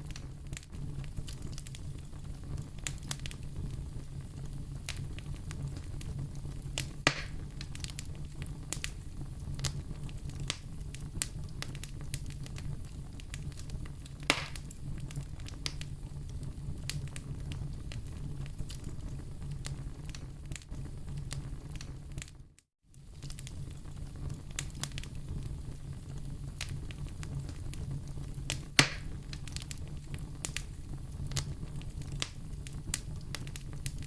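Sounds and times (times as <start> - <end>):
loud fire pops: 0.0 - 22.4, 23.0 - 34.0
low rumble of flames: 0.0 - 34.0
wood fire crackling: 0.0 - 34.0.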